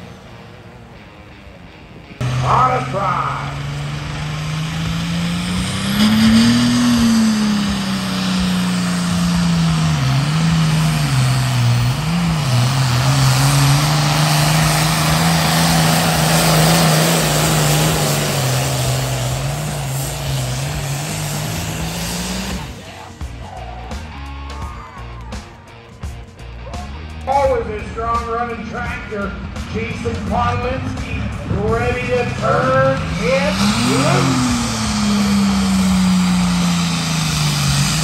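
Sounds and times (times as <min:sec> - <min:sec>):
tractor diesel engine under load: 0:00.0 - 0:24.6, 0:27.2 - 0:38.0.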